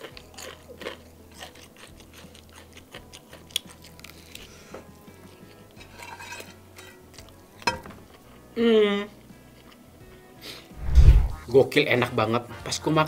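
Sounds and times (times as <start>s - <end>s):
crunchy chewing of fried chicken: 0.0s - 10.7s.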